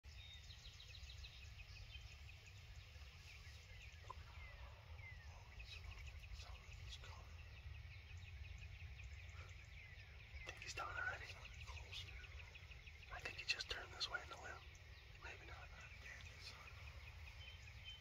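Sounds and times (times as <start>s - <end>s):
small birds chirping: 0.0s - 18.0s
low background rumble: 0.2s - 18.0s.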